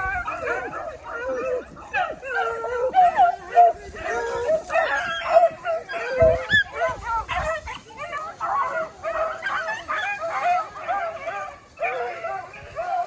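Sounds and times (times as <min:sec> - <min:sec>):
beagles baying and yelping: 0:00.0 - 0:13.0.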